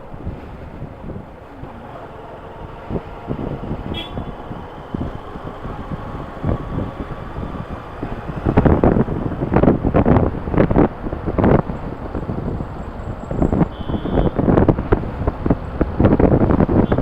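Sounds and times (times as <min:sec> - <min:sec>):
motorcycle engine rumble: 0:00.0 - 0:17.0
wind rushing over microphone: 0:00.0 - 0:17.0.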